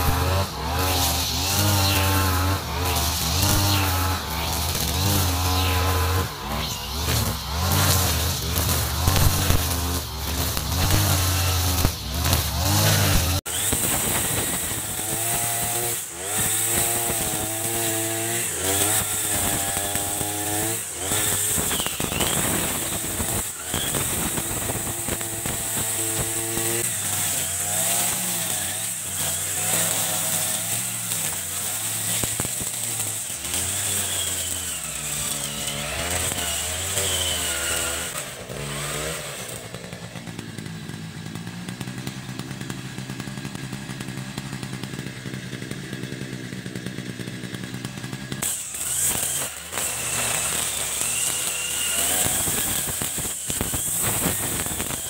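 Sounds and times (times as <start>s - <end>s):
brush cutter engine revving: 0.0s - 55.0s.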